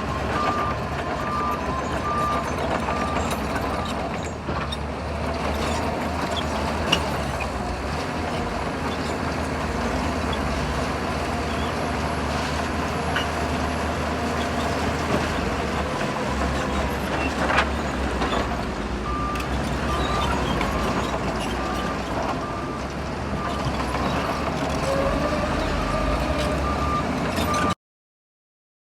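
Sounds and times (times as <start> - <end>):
diesel engine running: 0.0 - 27.7.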